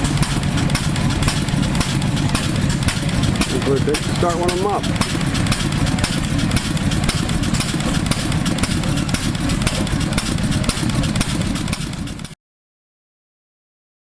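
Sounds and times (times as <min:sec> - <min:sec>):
gasoline engine running: 0:00.0 - 0:12.4.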